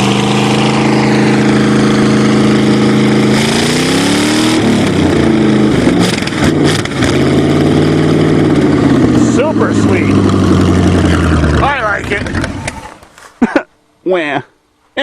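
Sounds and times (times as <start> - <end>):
car engine idling and revving: 0.0 - 13.2.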